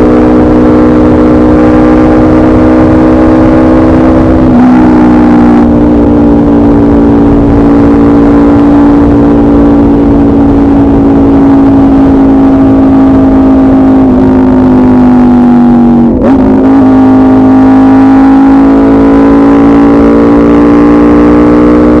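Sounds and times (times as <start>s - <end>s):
motorcycle engine revving loud: 0.0s - 22.0s.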